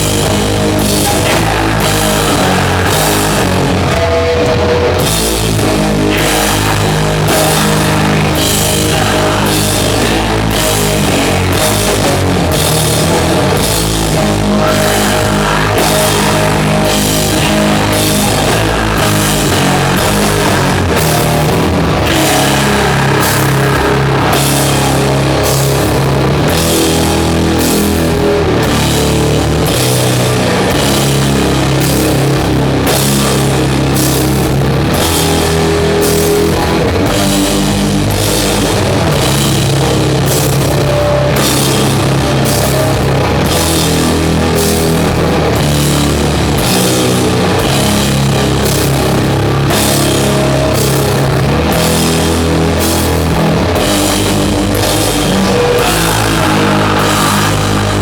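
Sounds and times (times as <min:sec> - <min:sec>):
distorted guitars and bass: 0:00.0 - 0:58.0.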